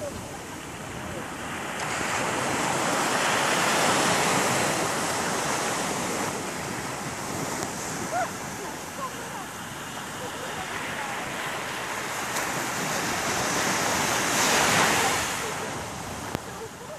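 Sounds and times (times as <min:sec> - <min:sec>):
ocean surf breaking on beach: 0:00.0 - 0:16.9.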